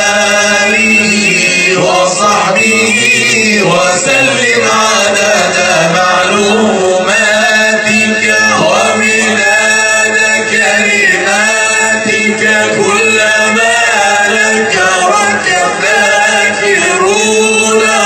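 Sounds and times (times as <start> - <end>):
men chanting together: 0.0 - 18.0.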